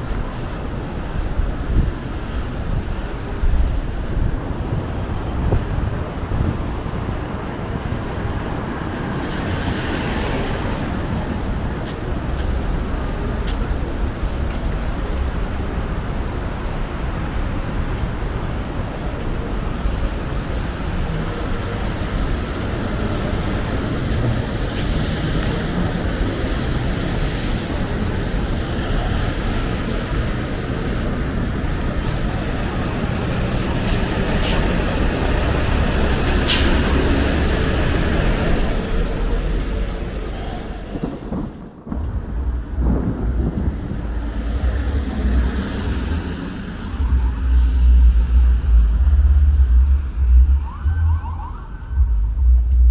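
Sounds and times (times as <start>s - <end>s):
steady rain: 0.0s - 52.9s
thunder rumbling: 0.0s - 52.9s.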